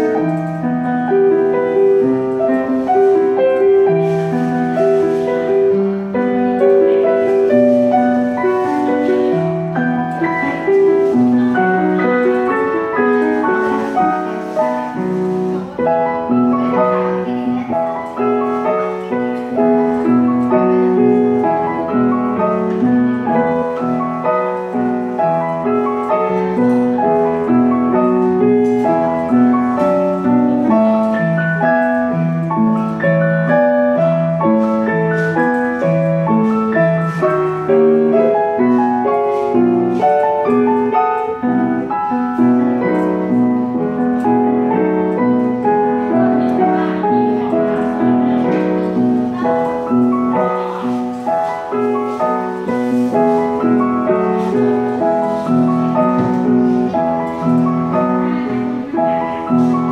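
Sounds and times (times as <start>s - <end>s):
gentle piano lullaby: 0.0s - 59.9s.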